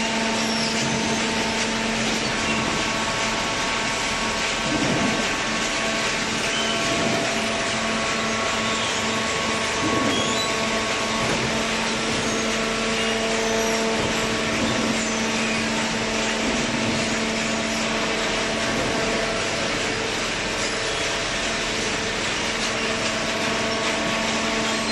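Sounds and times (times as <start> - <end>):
cardboard baler running: 0.0 - 24.9
constant mechanical hum: 0.0 - 24.9.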